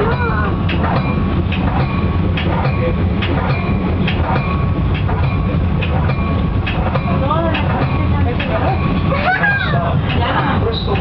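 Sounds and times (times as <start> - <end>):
train rumbling on track: 0.0 - 11.0
wheels clicking over rail joints: 0.0 - 11.0.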